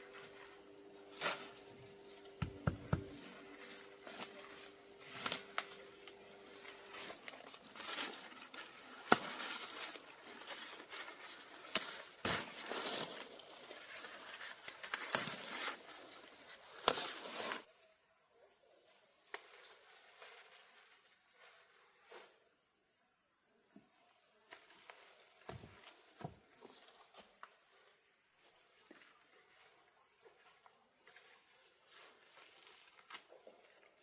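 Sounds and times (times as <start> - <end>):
rustling and crinkling: 0.0 - 17.8, 18.7 - 22.4, 23.9 - 34.0.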